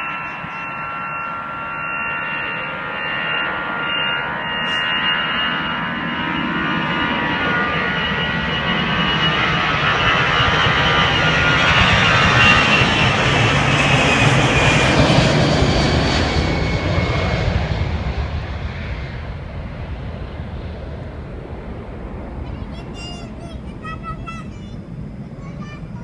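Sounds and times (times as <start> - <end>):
airliner engines roaring with whine: 0.0 - 26.0.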